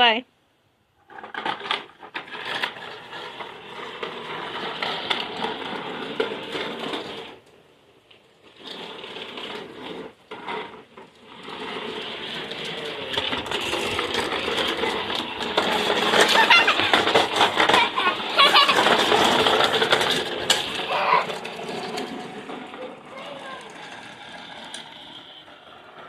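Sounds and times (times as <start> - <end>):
toy lawnmower whirring and rattling: 1.0 - 26.0.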